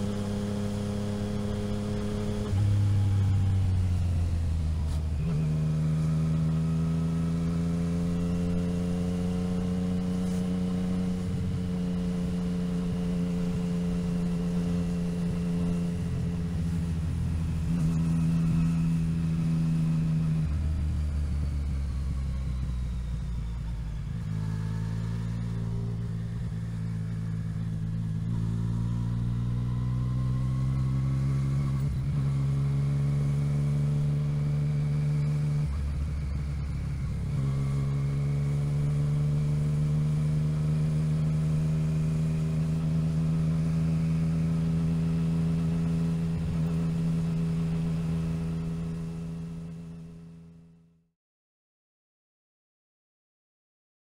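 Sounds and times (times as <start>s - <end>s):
motorcycle engine running: 0.0s - 50.8s.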